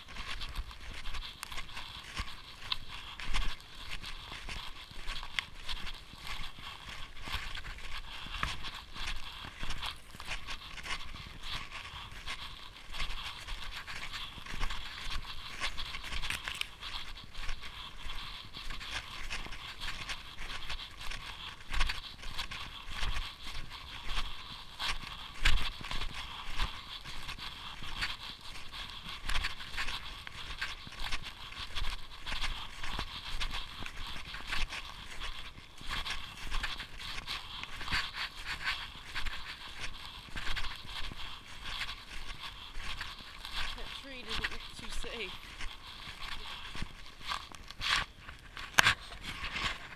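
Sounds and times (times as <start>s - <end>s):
constant hiss: 0.0s - 49.9s
snowshoes crunching on snow: 0.0s - 49.9s.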